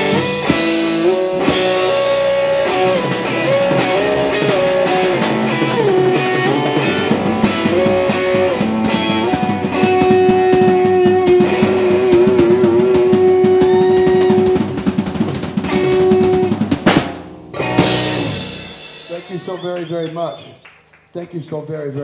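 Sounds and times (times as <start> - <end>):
electric guitar lead: 0.0 - 19.3
electric bass: 0.0 - 19.4
drum kit: 0.0 - 20.4.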